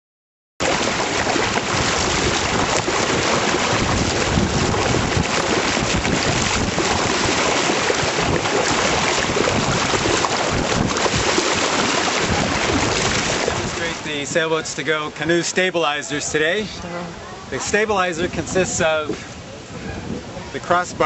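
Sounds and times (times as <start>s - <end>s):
wind noise on microphone: 0.6s - 14.7s, 17.2s - 21.0s
water rushing along canoe: 0.6s - 21.0s.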